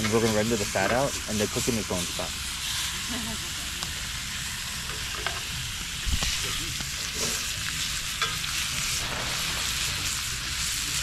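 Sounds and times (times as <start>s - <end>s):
fat sizzling: 0.0s - 11.0s.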